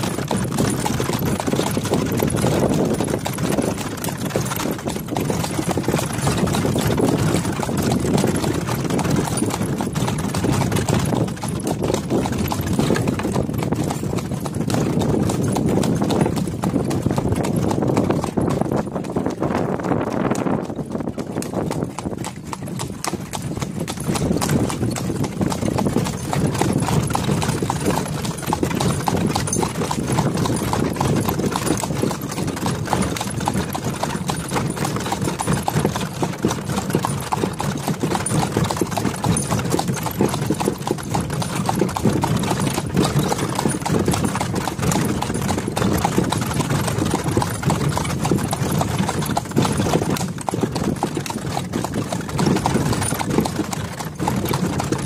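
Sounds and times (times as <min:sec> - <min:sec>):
horse hooves clip-clopping on asphalt: 0:00.0 - 0:55.0.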